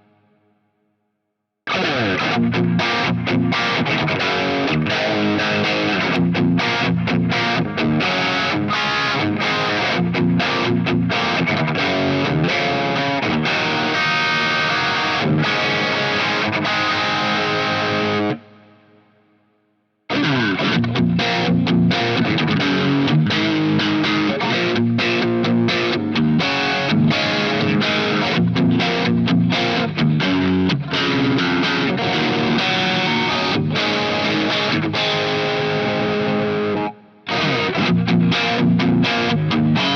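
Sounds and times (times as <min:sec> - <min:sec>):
distorted electric guitar riffs: 0:01.6 - 0:19.4, 0:20.1 - 0:39.9.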